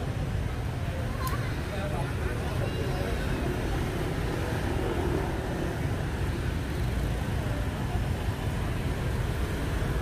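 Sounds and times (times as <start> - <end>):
faint voices of passers-by: 0.0 - 10.0
motorbike and car traffic: 0.0 - 10.0.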